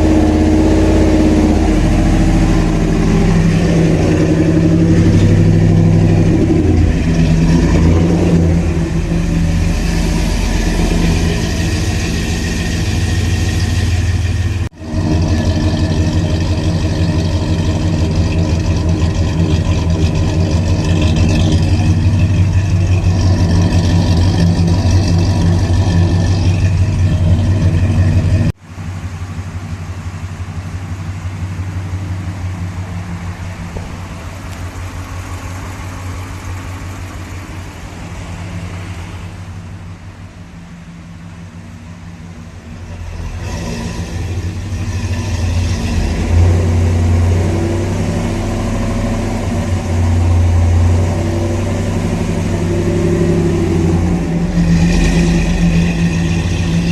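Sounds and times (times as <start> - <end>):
truck engine idling: 0.0 - 56.9.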